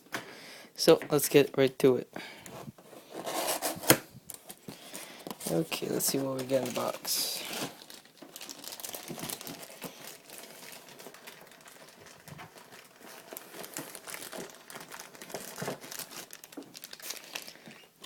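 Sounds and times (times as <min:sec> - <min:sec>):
packaging crinkling and rustling: 0:02.5 - 0:18.0.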